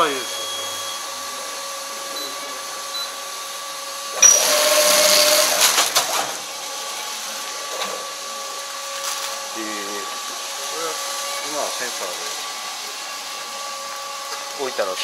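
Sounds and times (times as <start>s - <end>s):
hissing whirring rush: 0.0s - 15.0s
machine humming: 0.0s - 15.0s.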